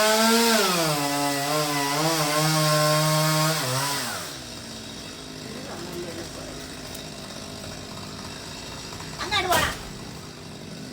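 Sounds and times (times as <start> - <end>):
chainsaw cutting a tree: 0.0 - 10.9.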